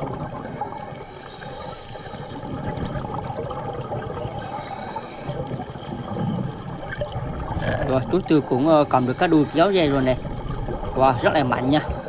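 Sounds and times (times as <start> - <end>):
faint steady hum: 0.0 - 12.0
underwater bubbling and gurgling: 0.0 - 12.0.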